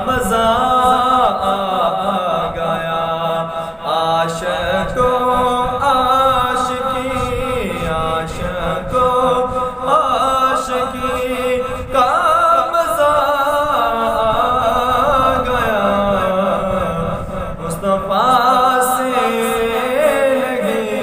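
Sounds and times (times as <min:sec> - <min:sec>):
man singing devotional poem: 0:00.0 - 0:21.0.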